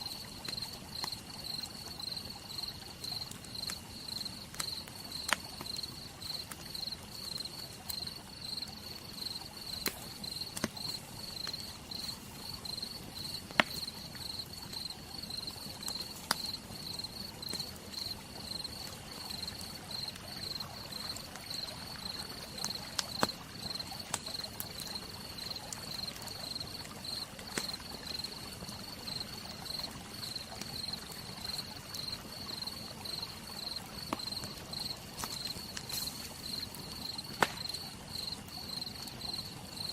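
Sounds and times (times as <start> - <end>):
campfire crackling and popping: 0.0 - 39.9
cricket chirping: 0.0 - 39.9
rain hiss: 0.0 - 39.9.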